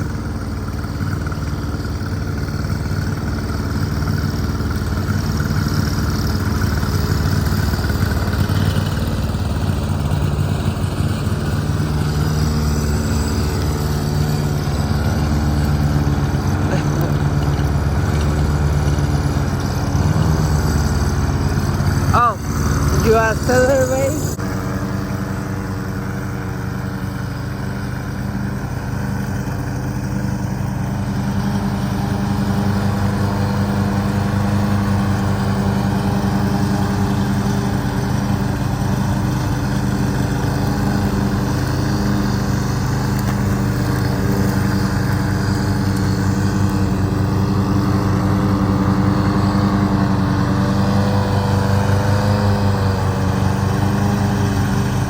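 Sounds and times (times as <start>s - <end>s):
riding lawn mower engine: 0.0s - 55.0s.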